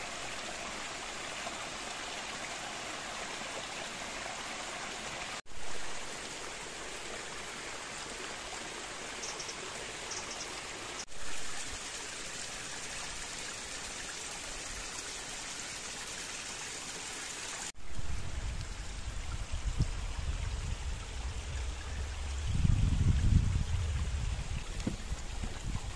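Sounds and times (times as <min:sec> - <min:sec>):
stream rushing over rocks: 0:00.0 - 0:25.9.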